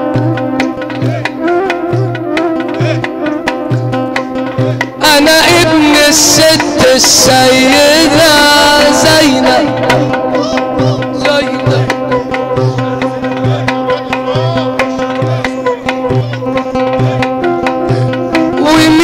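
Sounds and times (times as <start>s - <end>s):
hand drums beating: 0.0s - 19.0s
person singing: 0.0s - 19.0s.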